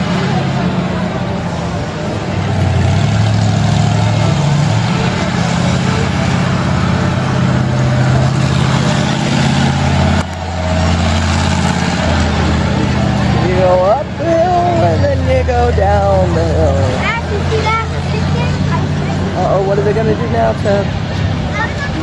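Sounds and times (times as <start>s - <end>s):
monster truck engine droning: 0.0s - 22.0s.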